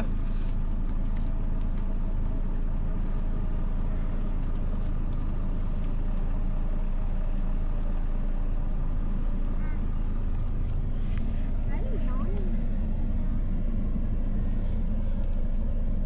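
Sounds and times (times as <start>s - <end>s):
car engine hum from inside: 0.0s - 16.0s.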